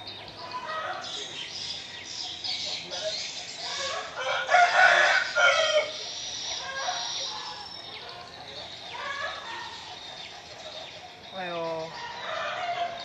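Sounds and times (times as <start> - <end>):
loud bird call: 0.0 - 13.0.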